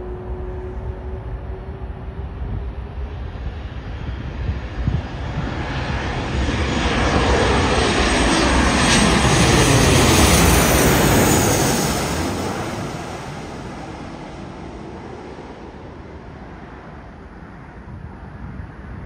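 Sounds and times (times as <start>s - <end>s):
jet airliner passing overhead: 0.0s - 19.0s.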